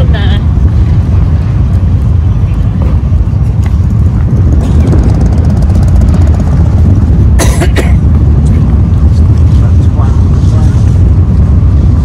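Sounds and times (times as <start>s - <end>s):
road traffic rumble: 0.0s - 12.0s
wind on microphone: 0.0s - 12.0s.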